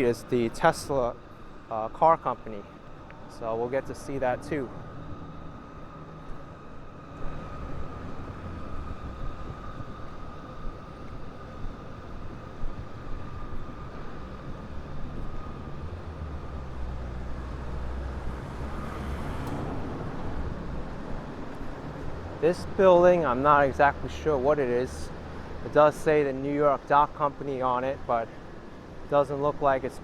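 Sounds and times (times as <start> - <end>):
high-pitched whine: 0.0 - 28.3
vehicle engine rumble: 0.0 - 29.1.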